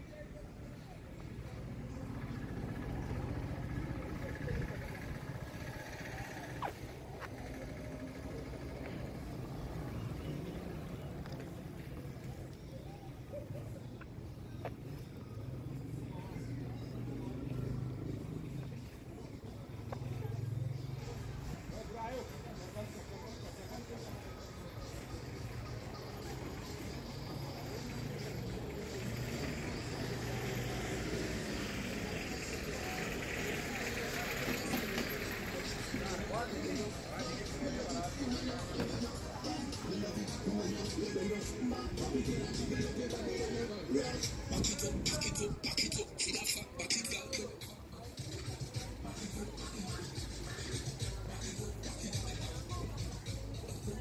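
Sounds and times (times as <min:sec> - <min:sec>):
distant traffic hum: 0:00.0 - 0:54.0.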